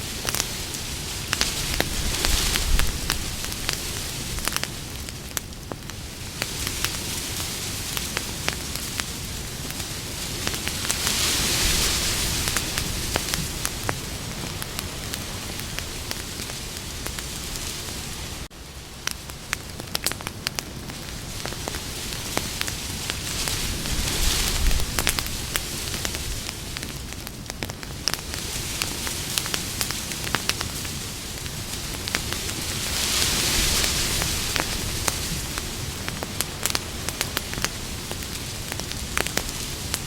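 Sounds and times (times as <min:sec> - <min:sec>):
campfire crackling and popping: 0:00.0 - 0:40.0
fire hissing: 0:00.0 - 0:40.0.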